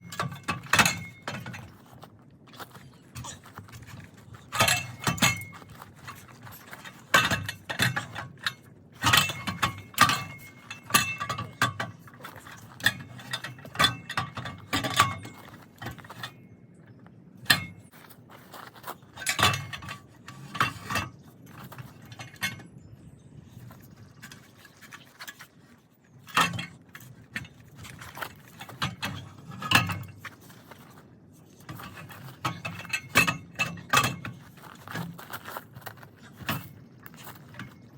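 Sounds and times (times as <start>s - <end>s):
metal tools clinking: 0.0s - 16.6s, 23.4s - 37.9s.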